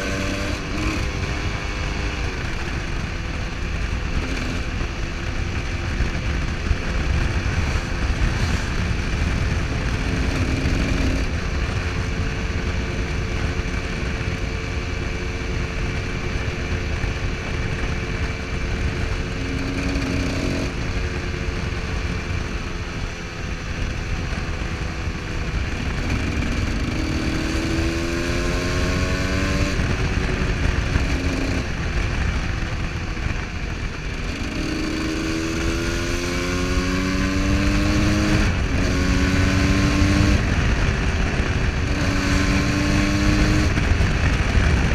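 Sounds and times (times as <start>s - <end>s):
motorcycle engine revving: 0.0s - 44.9s
wind rush on microphone: 0.0s - 44.9s.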